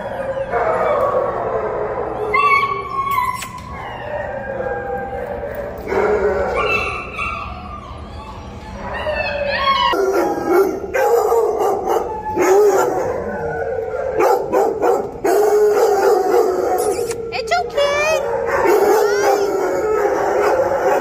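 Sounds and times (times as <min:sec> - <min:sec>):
dogs barking and yipping: 0:00.0 - 0:21.0
dogs wavering cries: 0:00.0 - 0:21.0.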